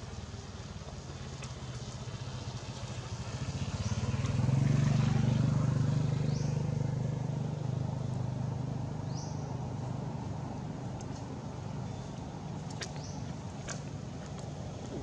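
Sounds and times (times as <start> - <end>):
vehicle engine passing: 1.6 - 15.0.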